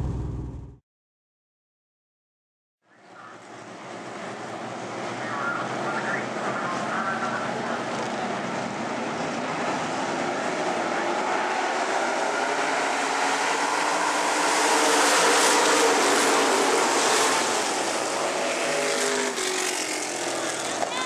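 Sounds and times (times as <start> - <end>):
stock car engines racing: 3.0 - 21.0.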